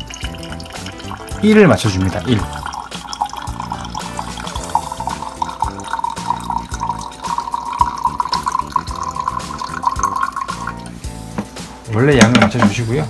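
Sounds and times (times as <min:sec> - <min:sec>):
liquid pouring into a jar: 0:00.0 - 0:11.0.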